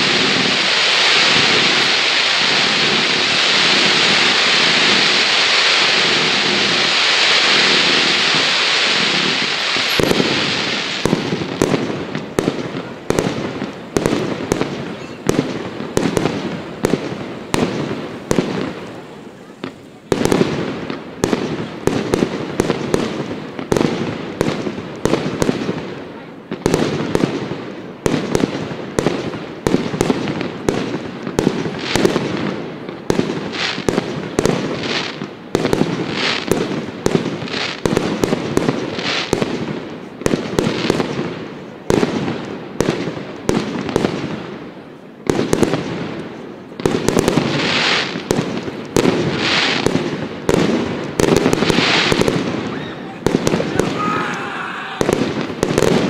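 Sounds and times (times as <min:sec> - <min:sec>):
fireworks bursts and bangs: 0:00.0 - 0:56.0
fireworks crackling hiss: 0:00.0 - 0:56.0.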